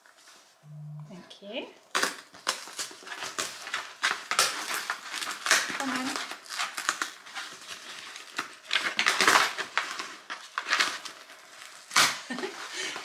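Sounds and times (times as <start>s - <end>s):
cardboard ripping and scraping: 1.9s - 13.0s.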